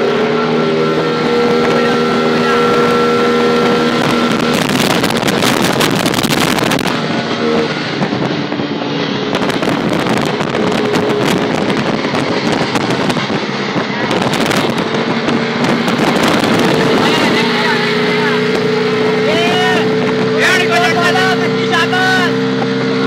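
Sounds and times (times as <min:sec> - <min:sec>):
wind buffeting microphone: 0:00.0 - 0:21.6
small engines droning: 0:00.0 - 0:23.0.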